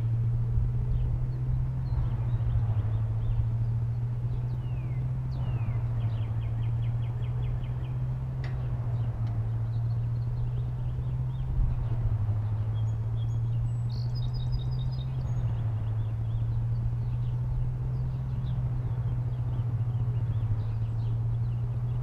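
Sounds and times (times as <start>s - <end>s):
birds chirping: 0.8s - 22.0s.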